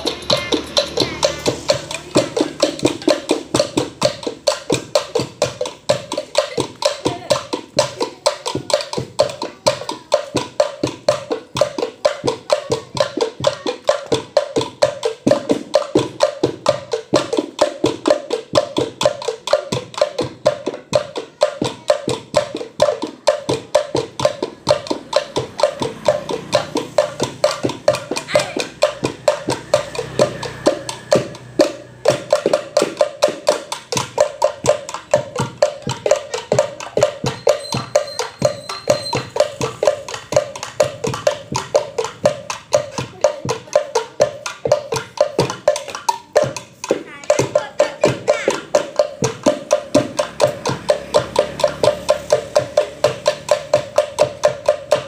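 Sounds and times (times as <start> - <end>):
bamboo slit drums rapid beat: 0.0 - 55.0
pitched wooden tones: 0.0 - 55.0.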